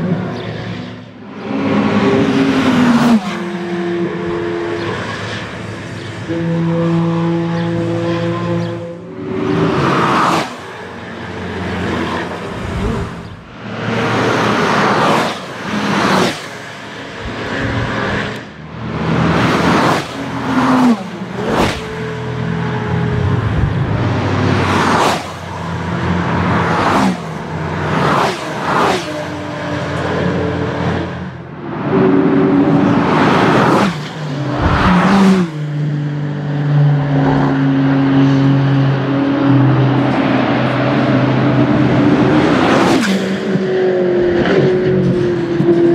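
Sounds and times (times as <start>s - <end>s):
sports cars passing at speed: 0.0s - 45.9s.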